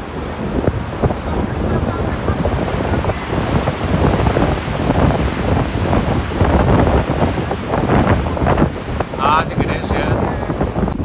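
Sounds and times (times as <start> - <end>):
rushing water of boat wake: 0.0 - 11.0
wind buffeting microphone: 0.0 - 11.0.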